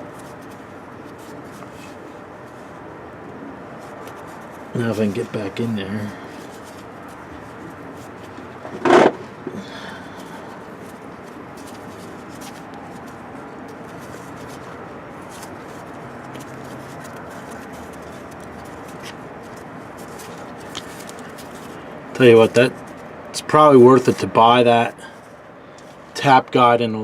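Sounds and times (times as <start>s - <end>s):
low background noise: 0.0s - 27.0s.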